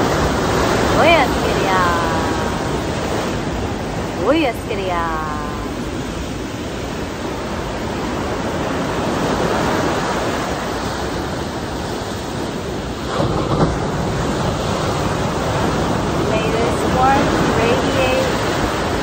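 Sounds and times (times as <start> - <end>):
surf breaking on rocks: 0.0 - 19.0
wave crash: 0.0 - 19.0.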